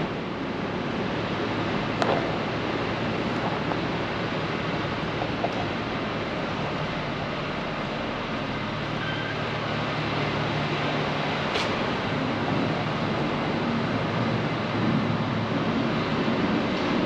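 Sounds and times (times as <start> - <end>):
city street traffic: 0.0 - 17.0
low hum: 0.0 - 17.0.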